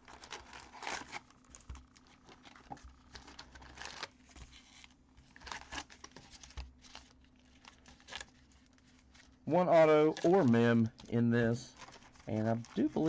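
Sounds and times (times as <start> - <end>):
card packs rustling and crinkling: 0.0 - 13.0.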